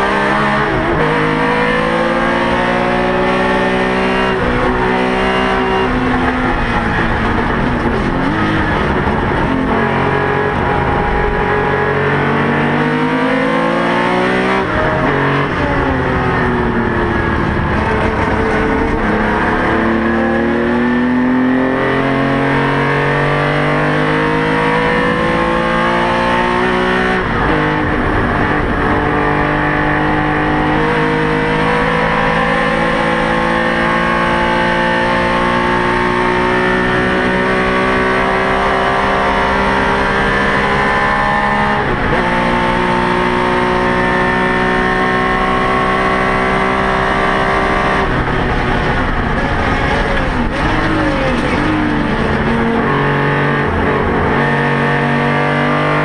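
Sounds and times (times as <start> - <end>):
racing engine revving: 0.0 - 56.0.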